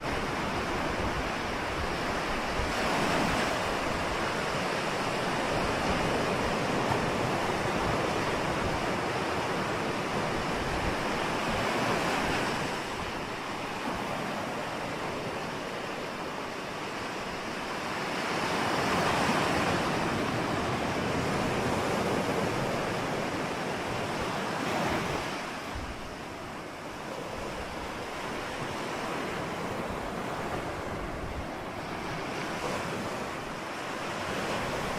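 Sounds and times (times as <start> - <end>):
ocean waves washing: 0.0 - 34.9.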